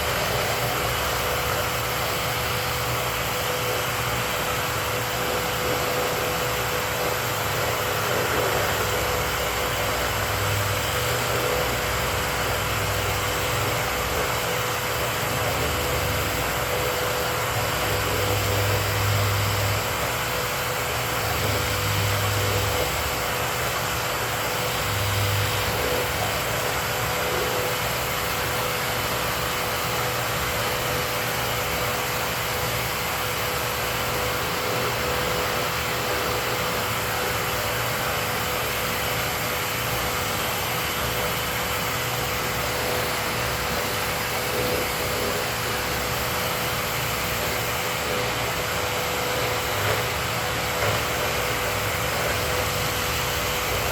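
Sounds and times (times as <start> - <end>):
dust collection vacuum whine: 0.0 - 53.9.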